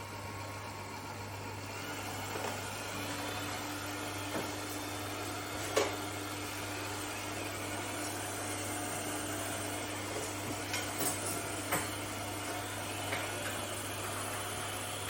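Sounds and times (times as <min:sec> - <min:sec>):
robot vacuum motor hum: 0:00.7 - 0:15.0.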